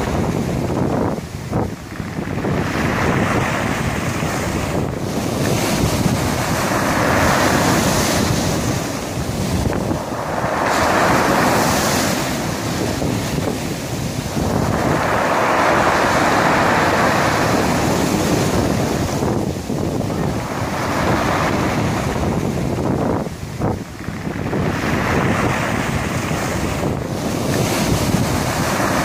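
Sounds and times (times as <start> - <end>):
waves breaking on pebble beach: 0.0 - 29.0
wind buffeting microphone: 0.0 - 29.0.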